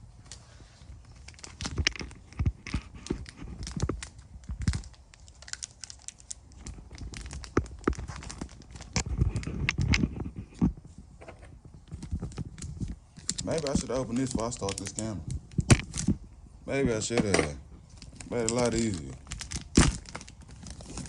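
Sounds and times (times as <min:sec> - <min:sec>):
packaging tearing and crinkling: 0:01.0 - 0:10.6, 0:11.8 - 0:16.2, 0:17.8 - 0:21.0.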